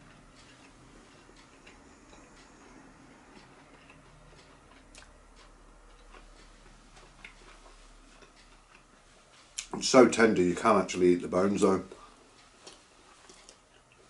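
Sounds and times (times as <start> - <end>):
man chewing food: 0.0 - 9.8, 11.9 - 14.0.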